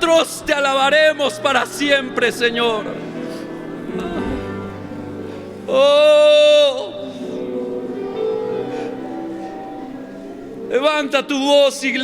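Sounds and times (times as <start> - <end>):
soft worship music: 0.0 - 12.0.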